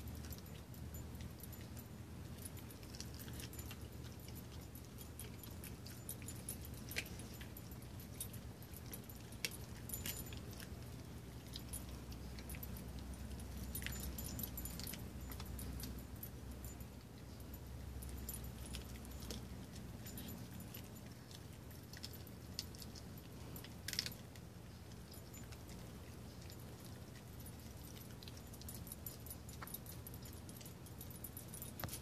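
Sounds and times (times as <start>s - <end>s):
dog crunching bones: 0.0s - 32.0s.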